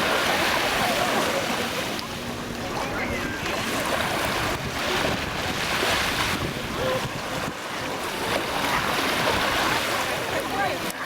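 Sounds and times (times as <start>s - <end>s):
waves breaking on beach: 0.0s - 11.0s
wind rumbling on microphone: 0.0s - 11.0s.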